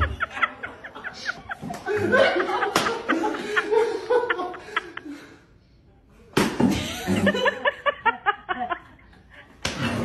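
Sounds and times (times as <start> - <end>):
group of people laughing: 0.0 - 5.5, 6.6 - 10.0.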